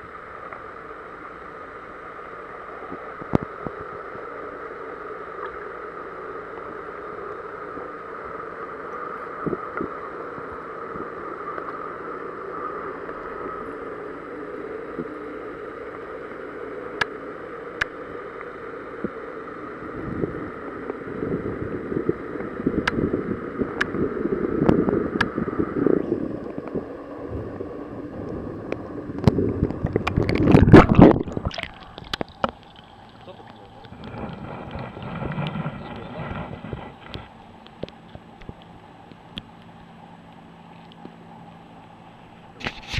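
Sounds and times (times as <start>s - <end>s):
underwater hum: 0.0s - 42.9s
water rushing and gurgling: 0.0s - 42.9s.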